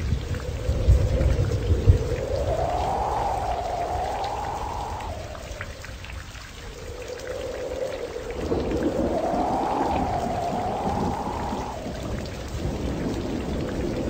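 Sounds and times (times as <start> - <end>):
howling wind: 0.0 - 14.0
low rumble: 0.0 - 14.0
raindrop ticks: 0.0 - 14.0
steady rain: 0.0 - 14.0.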